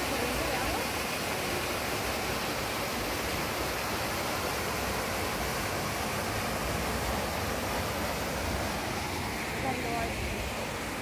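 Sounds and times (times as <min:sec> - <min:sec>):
water running through pools: 0:00.0 - 0:11.0.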